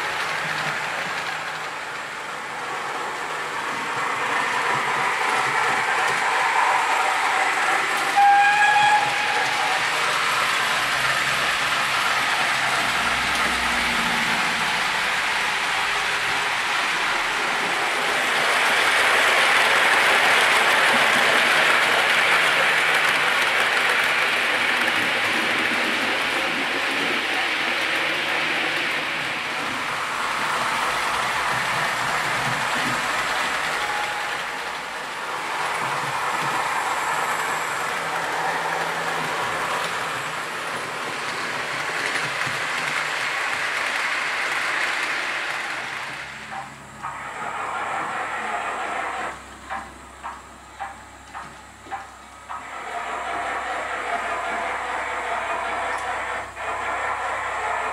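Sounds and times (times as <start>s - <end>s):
model train hissing rush: 0.0s - 57.9s.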